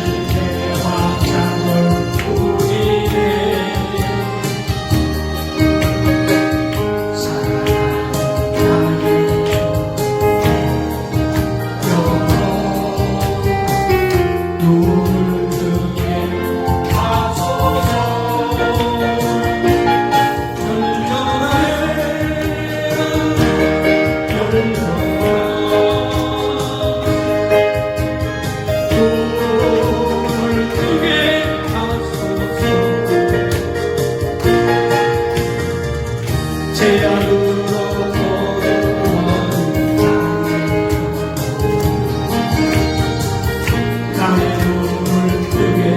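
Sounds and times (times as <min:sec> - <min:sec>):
gospel singing with band: 0:00.0 - 0:45.9
instrumental accompaniment with beat: 0:00.0 - 0:45.9.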